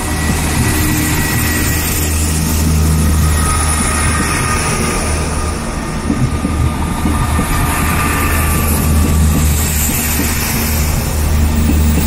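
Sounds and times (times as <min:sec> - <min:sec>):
diesel train drone: 0:00.0 - 0:12.0
wheel and rail noise: 0:00.0 - 0:12.0.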